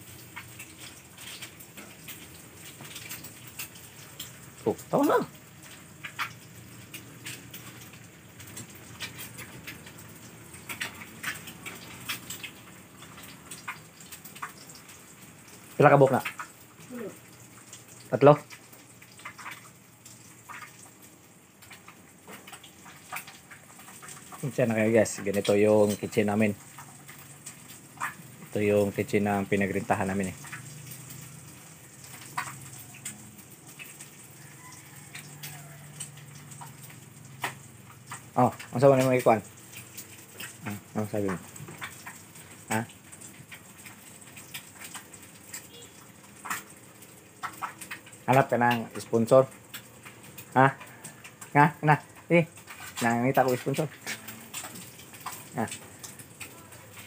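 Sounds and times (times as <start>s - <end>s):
oil crackling in a frying pan: 0.0s - 57.0s.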